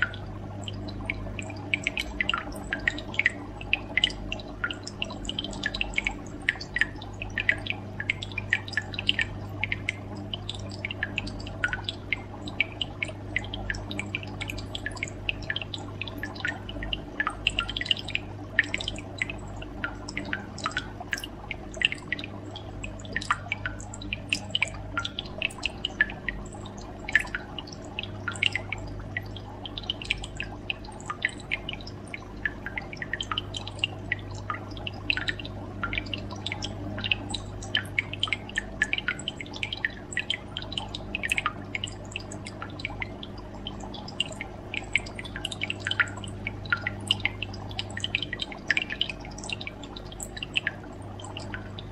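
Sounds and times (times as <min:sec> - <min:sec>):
crackle of clicks and pops: 0:00.0 - 0:51.9
steady low hum: 0:00.0 - 0:51.9.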